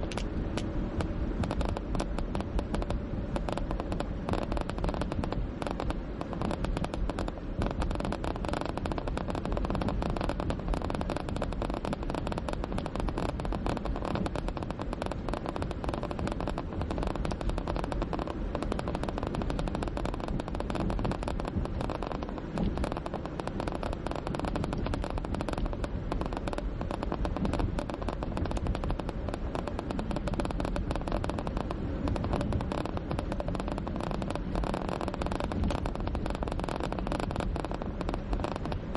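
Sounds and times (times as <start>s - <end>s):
rapid crackle: 0.0s - 38.9s
tyre and road rumble: 0.0s - 38.9s.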